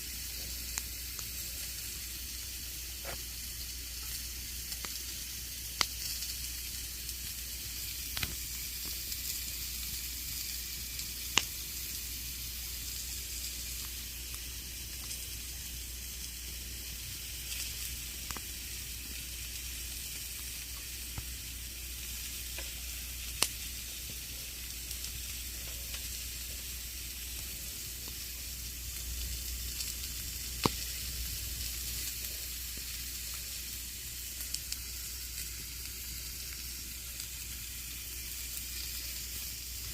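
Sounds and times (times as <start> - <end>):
fire popping: 0.0 - 39.9
campfire crackling: 0.1 - 39.9.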